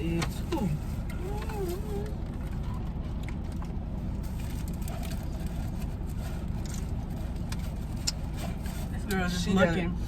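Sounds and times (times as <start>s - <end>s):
car cabin rumble: 0.0s - 10.0s
clicks and rustles of eating: 1.0s - 9.2s.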